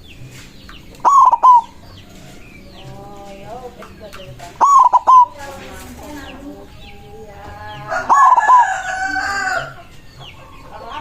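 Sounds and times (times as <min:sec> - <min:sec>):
roosters crowing: 0:00.0 - 0:11.0
small birds chirping: 0:00.0 - 0:11.0
dove cooing: 0:00.9 - 0:11.0.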